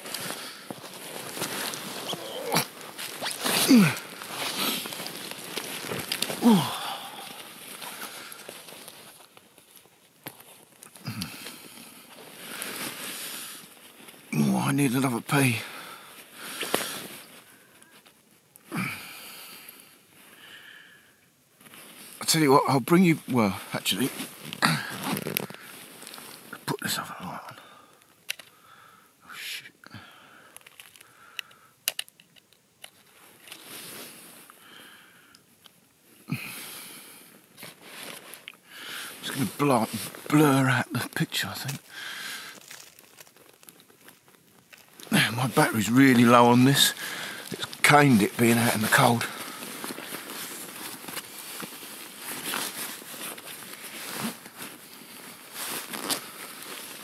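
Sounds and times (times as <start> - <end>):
close rustling and crinkling: 0.0 - 18.7, 21.5 - 28.6, 30.4 - 57.0.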